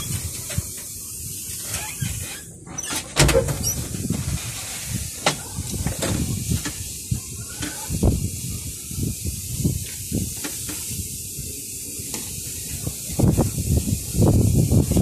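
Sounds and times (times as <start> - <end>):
wind buffeting microphone: 0.0 - 2.2, 3.2 - 15.0.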